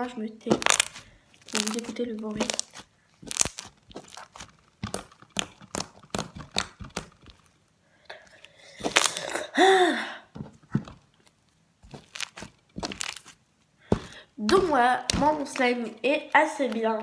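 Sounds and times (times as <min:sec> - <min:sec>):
squeaky slime squelch: 0:00.0 - 0:07.5, 0:08.2 - 0:09.5, 0:11.8 - 0:17.0.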